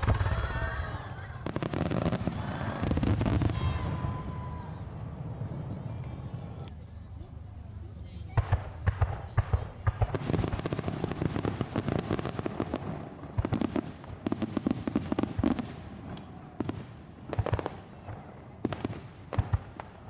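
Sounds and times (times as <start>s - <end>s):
fireworks crackling and banging: 0.0s - 7.5s, 8.1s - 20.0s.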